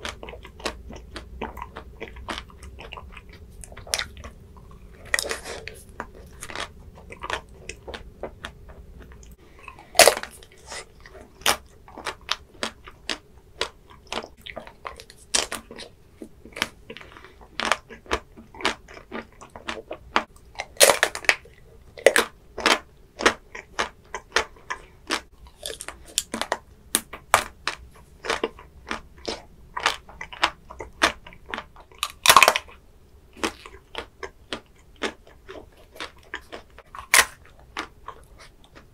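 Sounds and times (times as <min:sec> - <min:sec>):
chewing crunchy chocolate shell: 0:00.0 - 0:38.9.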